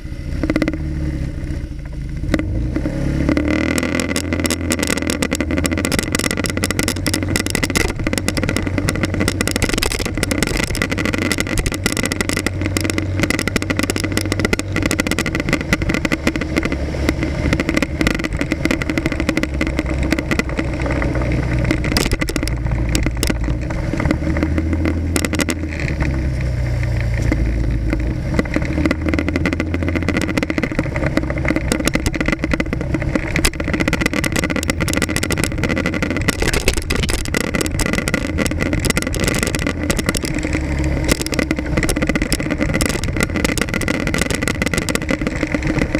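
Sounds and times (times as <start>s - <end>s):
motorcycle engine: 0.0s - 45.9s
short clicks and rattles: 3.6s - 45.9s.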